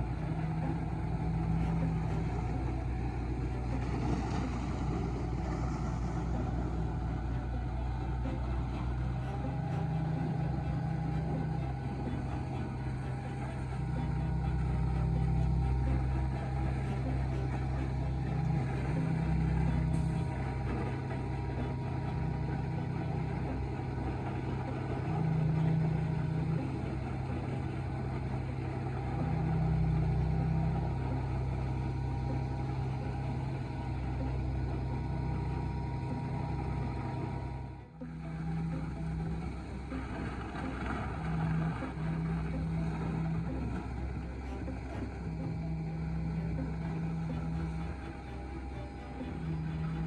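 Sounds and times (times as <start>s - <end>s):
large engine humming: 0.0s - 50.0s.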